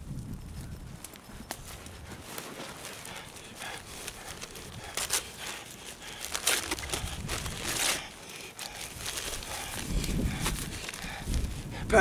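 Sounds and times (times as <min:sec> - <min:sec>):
paper wrapper crinkling: 0:01.4 - 0:11.6.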